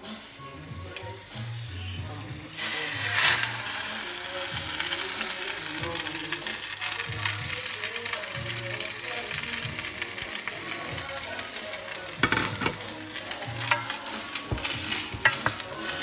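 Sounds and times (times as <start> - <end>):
background music with low notes: 0.0 - 16.0
food sizzling in a pan: 0.0 - 16.0.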